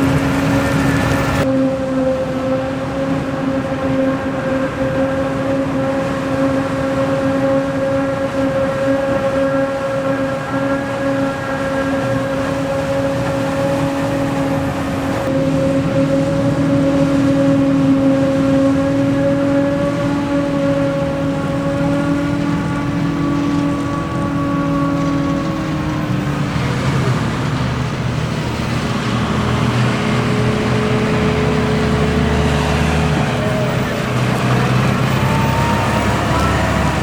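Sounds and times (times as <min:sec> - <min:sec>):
steady mechanical drone: 0:00.0 - 0:37.0.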